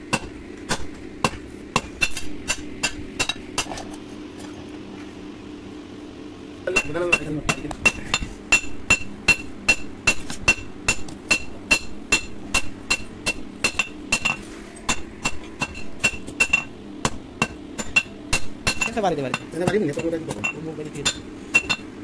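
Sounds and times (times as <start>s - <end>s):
hammer striking anvil: 0.1s - 3.7s, 6.7s - 21.8s.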